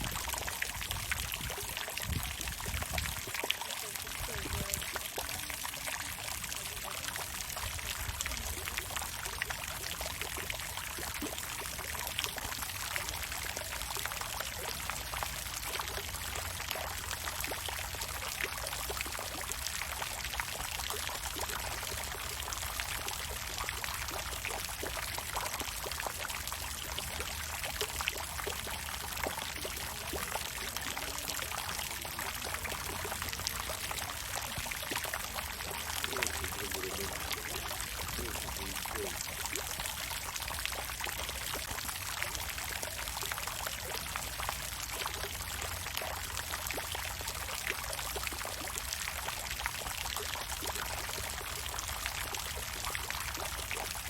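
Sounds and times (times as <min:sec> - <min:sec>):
water fountain splashing: 0:00.0 - 0:54.0.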